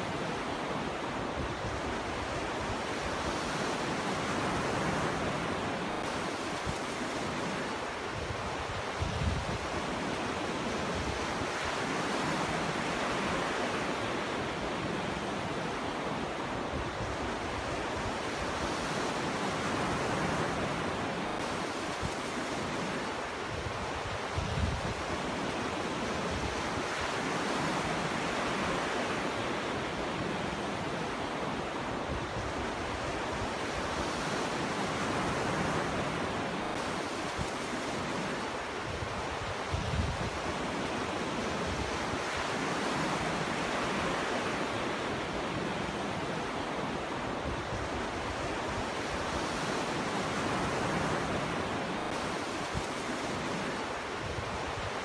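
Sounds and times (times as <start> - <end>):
ocean waves breaking: 0.0 - 55.0
wind noise: 0.0 - 55.0.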